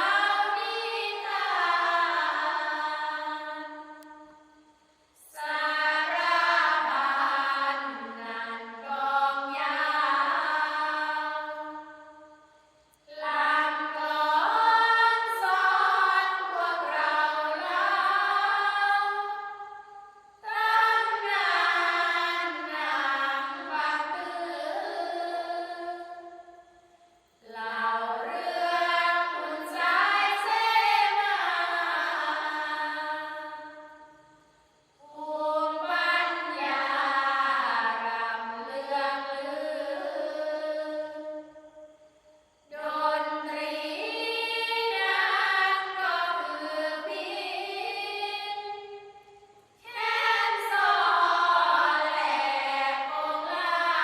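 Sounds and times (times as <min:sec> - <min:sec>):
group chanting unaccompanied: 0:00.0 - 0:04.4, 0:05.2 - 0:12.3, 0:13.1 - 0:26.5, 0:27.4 - 0:34.2, 0:35.0 - 0:41.8, 0:42.7 - 0:49.2, 0:49.8 - 0:54.0.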